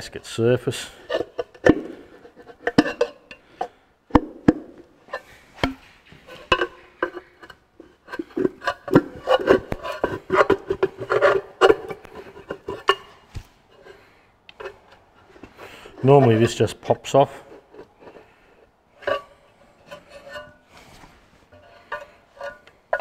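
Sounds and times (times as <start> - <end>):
screwdriver scraping and clicking on metal: 0.9 - 3.7, 5.1 - 18.4, 19.0 - 20.6, 21.5 - 23.0.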